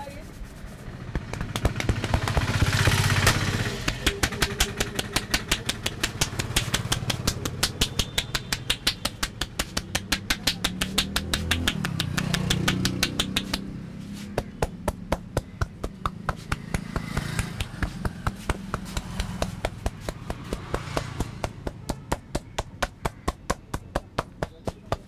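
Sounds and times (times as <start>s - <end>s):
hands slapping body: 1.1s - 25.0s.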